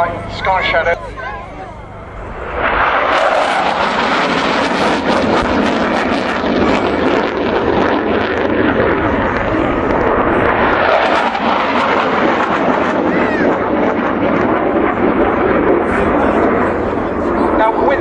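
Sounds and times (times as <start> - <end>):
jet flying by: 0.0 - 18.0.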